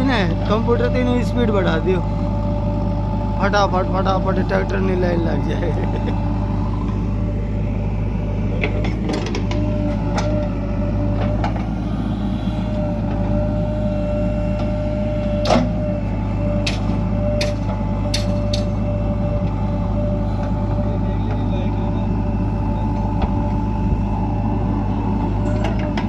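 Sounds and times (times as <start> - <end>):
diesel engine droning: 0.0 - 26.0
steady whine: 0.0 - 26.0.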